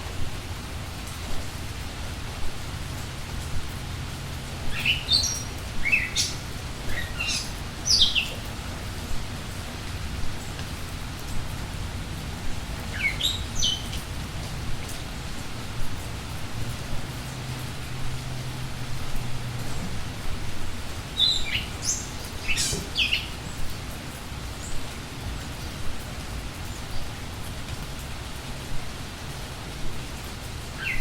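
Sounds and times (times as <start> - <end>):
steady rain: 0.0 - 31.0
songbirds chirping: 0.4 - 31.0.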